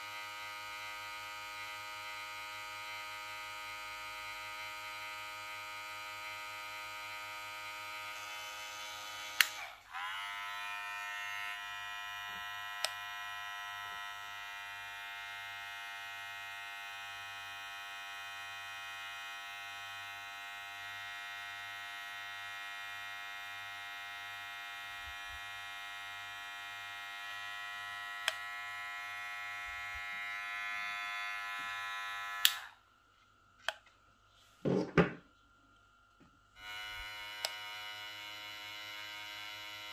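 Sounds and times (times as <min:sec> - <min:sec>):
hair clipper motor whine: 0:00.0 - 0:32.8, 0:36.6 - 0:39.9.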